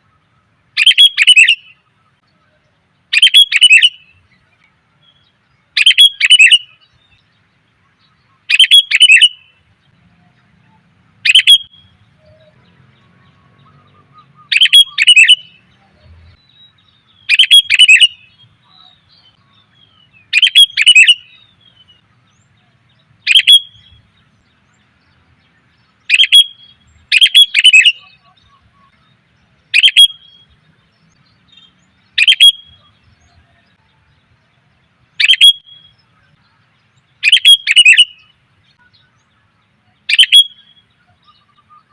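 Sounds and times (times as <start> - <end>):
bulbul chattering call: 0.7 - 1.9, 3.1 - 4.3, 5.8 - 7.0, 8.0 - 24.6, 25.6 - 34.0, 35.1 - 41.9.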